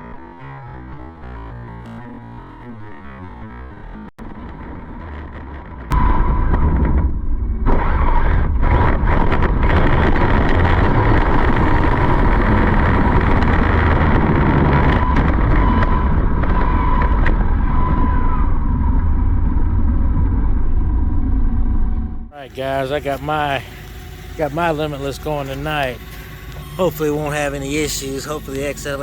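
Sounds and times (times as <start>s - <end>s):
low rumble: 0.0s - 29.0s
electric toy car whine: 0.1s - 19.6s, 22.4s - 29.0s.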